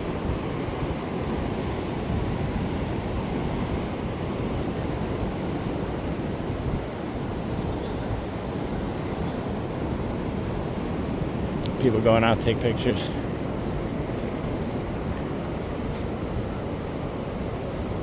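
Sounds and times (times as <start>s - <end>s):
ocean surf on beach: 0.0s - 18.0s
wind rumbling on microphone: 0.0s - 18.0s.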